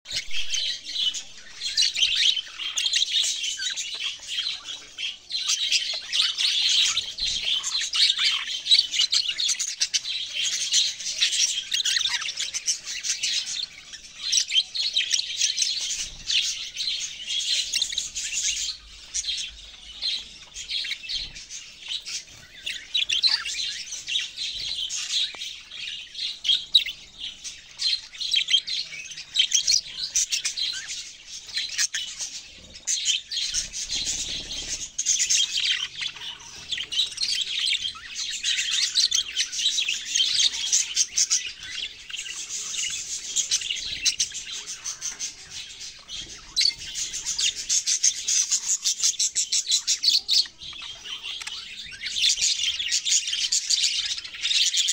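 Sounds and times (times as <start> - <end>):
budgerigars chirping: 0.1 - 54.9.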